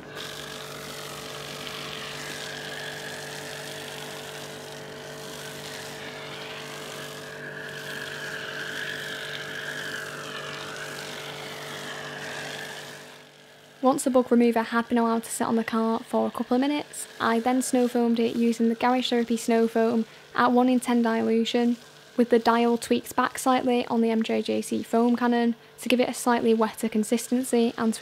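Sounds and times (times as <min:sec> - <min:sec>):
foam cannon hissing: 0:00.0 - 0:24.2
pressure washer motor hum: 0:00.0 - 0:28.0.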